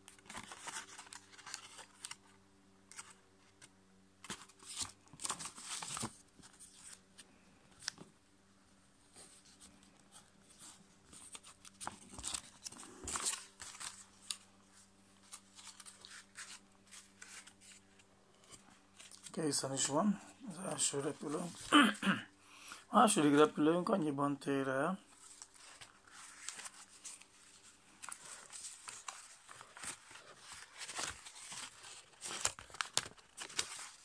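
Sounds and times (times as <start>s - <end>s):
paper rustling and crinkling: 0.0s - 8.1s, 9.1s - 22.0s, 25.0s - 34.0s
faint steady hum: 0.0s - 34.0s.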